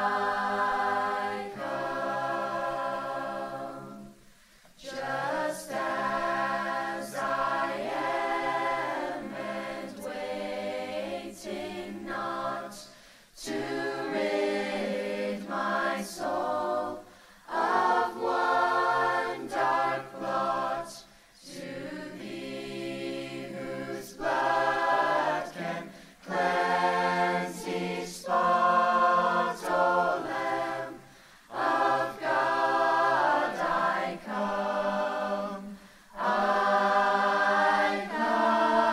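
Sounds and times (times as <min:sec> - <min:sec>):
choir singing a cappella: 0:00.0 - 0:38.9.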